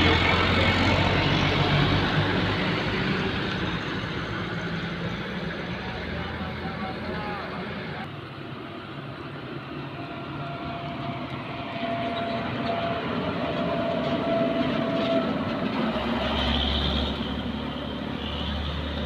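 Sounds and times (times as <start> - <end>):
heavy truck engine passing: 0.0 - 19.0.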